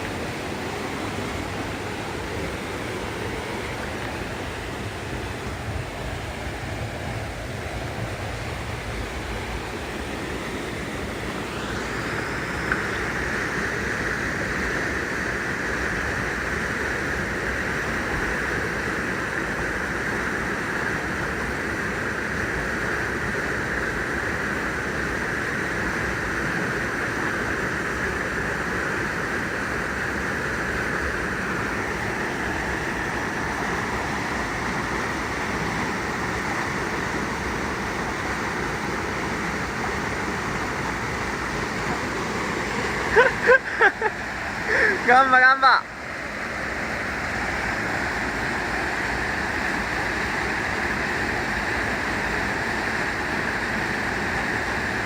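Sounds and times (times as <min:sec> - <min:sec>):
waterfall rushing water: 0:00.0 - 0:55.0.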